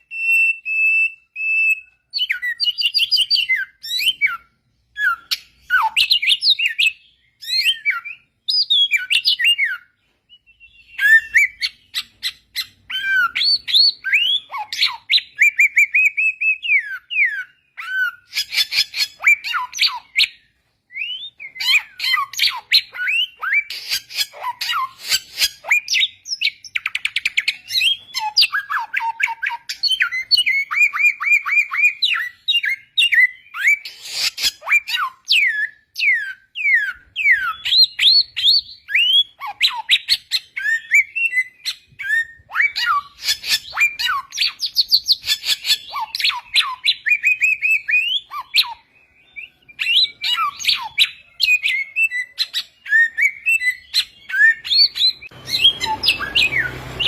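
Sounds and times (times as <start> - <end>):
bird chirps trills and whistles: 0.0 - 57.0.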